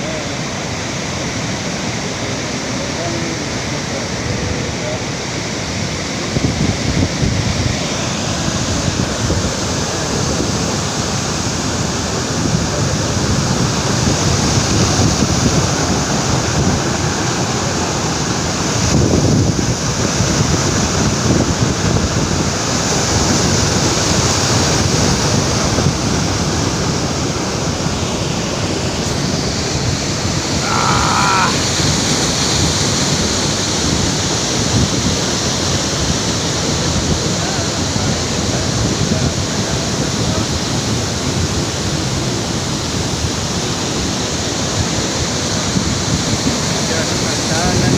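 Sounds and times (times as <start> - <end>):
waterfall roaring: 0.0 - 47.9
wind buffeting microphone: 6.2 - 47.9.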